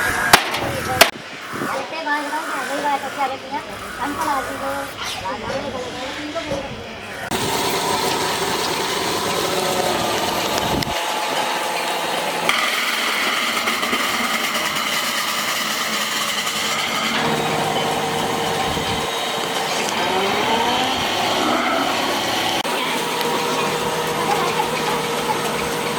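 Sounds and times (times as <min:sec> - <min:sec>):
workshop machinery whining hum: 0:00.0 - 0:25.9.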